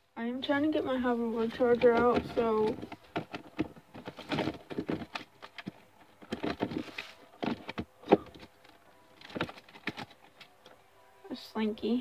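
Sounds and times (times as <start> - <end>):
objects rustling and clattering: 0.5 - 10.8.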